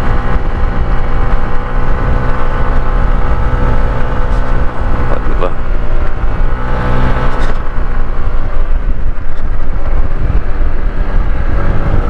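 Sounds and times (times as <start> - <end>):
motorcycle engine under load: 0.0 - 12.0
wind buffeting microphone: 0.0 - 12.0.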